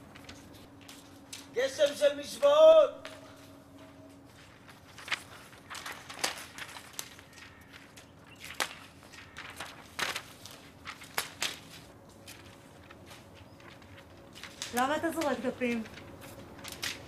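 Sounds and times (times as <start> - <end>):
faint steady hum: 0.0 - 17.0
footsteps on pavement: 0.0 - 17.0.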